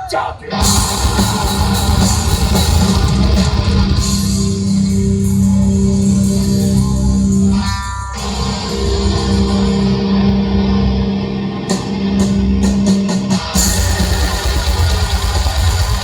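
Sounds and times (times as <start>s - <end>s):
loud rock music: 0.1s - 16.0s.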